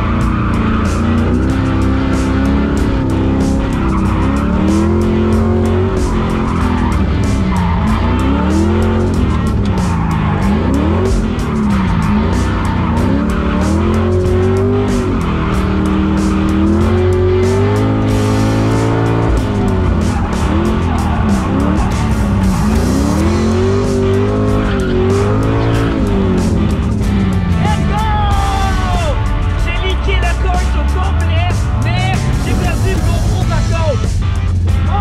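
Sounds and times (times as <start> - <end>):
car engine revving: 0.0 - 35.0
tyres skidding: 0.0 - 35.0.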